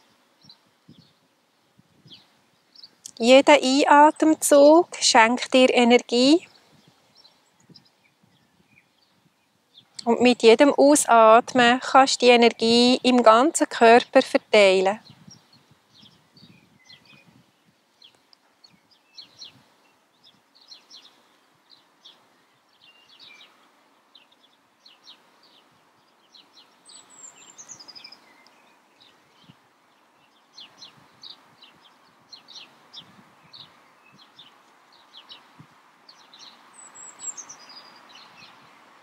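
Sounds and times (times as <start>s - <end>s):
songbirds chirping: 0.0s - 39.0s.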